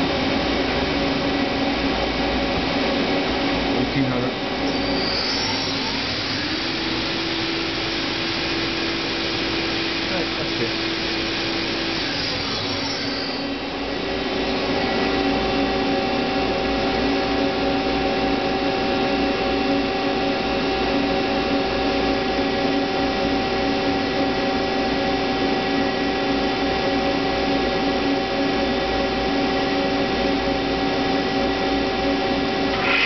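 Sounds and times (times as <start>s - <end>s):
machine whining hum: 0.0s - 33.0s.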